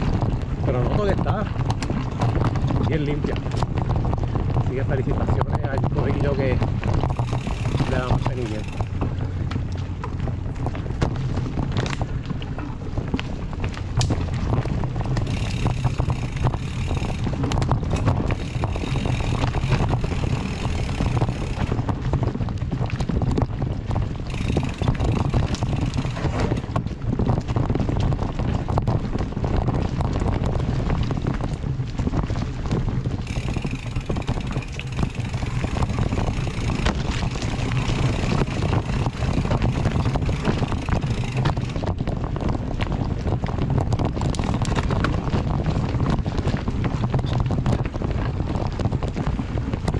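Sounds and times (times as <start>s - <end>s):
bike rattling and clicking: 0.0s - 49.9s
bike tyres rumbling on dirt: 0.0s - 49.9s
wind on microphone: 0.0s - 49.9s.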